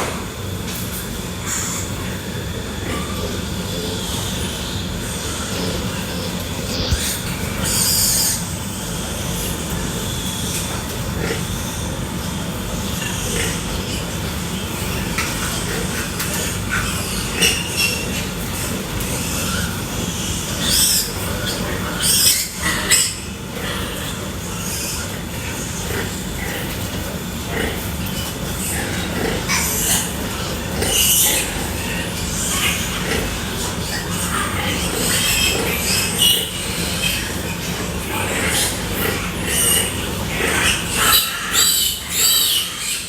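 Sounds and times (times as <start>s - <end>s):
pigs squealing: 0.0s - 43.0s
steady low hum: 0.0s - 43.0s.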